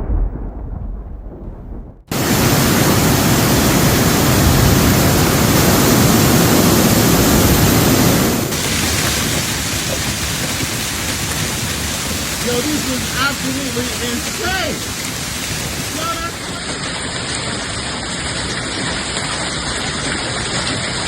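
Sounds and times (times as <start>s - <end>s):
thunder rumbling: 0.0s - 17.8s
hail and rain pelting down: 2.1s - 21.0s.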